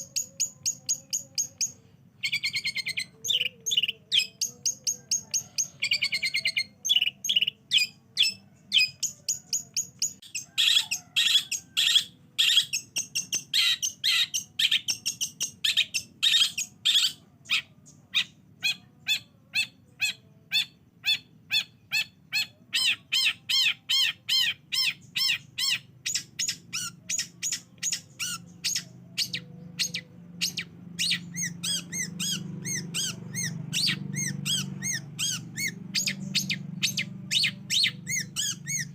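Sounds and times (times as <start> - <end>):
bird singing sharp chirps: 0.0 - 38.9.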